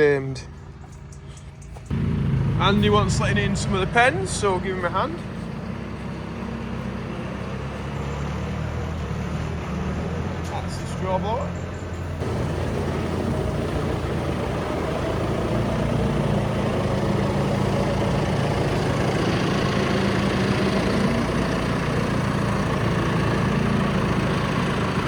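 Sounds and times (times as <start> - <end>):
tractor engine running: 0.0 - 25.0
straw blower running: 1.9 - 11.2, 12.1 - 25.0.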